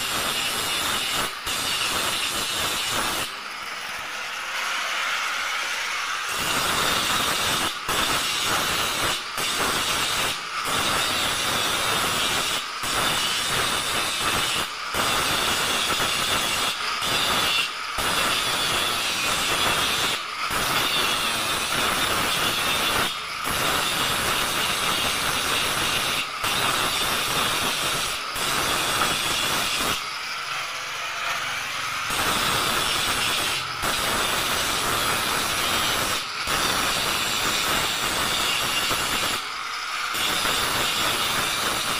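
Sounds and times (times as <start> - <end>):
angle grinder grinding steel: 0.0 - 41.9.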